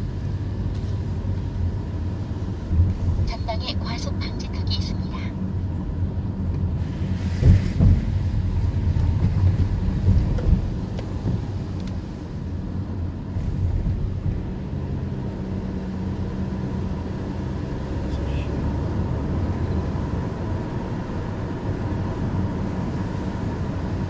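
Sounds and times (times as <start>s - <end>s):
car cabin engine and tyre hum: 0.0s - 24.0s.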